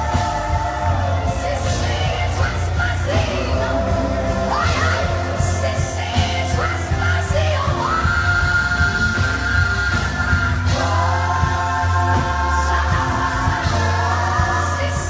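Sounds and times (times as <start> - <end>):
heavy bass line: 0.0 - 15.0
live gospel band: 0.0 - 15.0.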